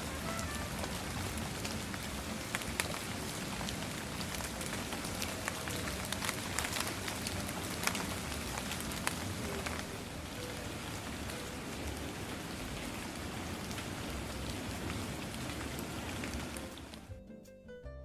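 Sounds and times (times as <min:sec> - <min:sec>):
raindrops striking close by: 0:00.0 - 0:17.1
steady rain falling: 0:00.0 - 0:17.1.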